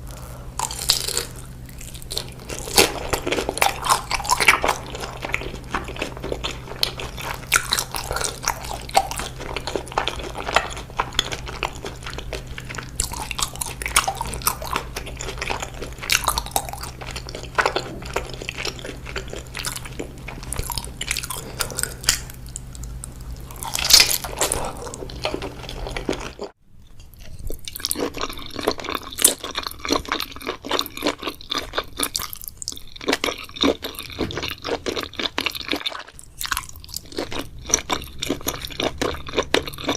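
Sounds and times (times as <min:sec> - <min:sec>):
crunching and chewing seaweed: 0:00.0 - 0:39.9
low steady hum: 0:00.0 - 0:39.9.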